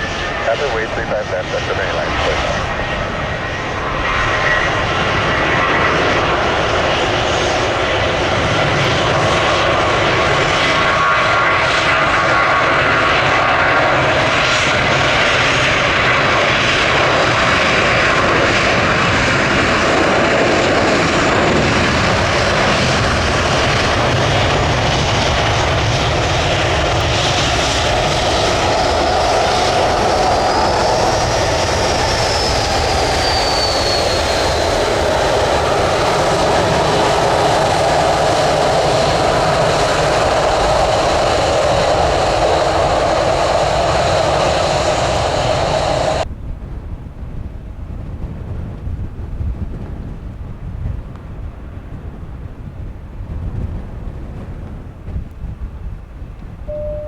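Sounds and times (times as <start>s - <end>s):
jet airliner engines: 0.0s - 57.0s.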